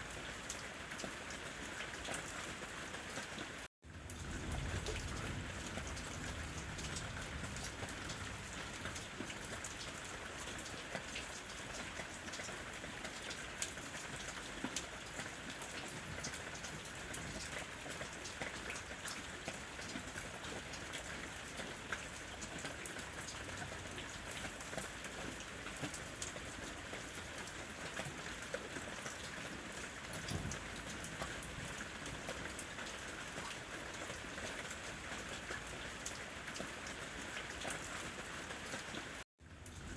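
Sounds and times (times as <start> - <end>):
rain hissing on roof: 0.0 - 39.9
raindrops ticking: 0.2 - 39.9.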